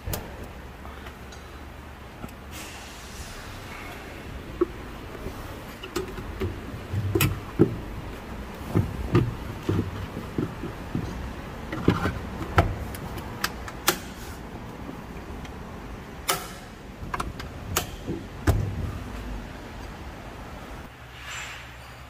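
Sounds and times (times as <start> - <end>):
low steady background noise: 0.0 - 22.0.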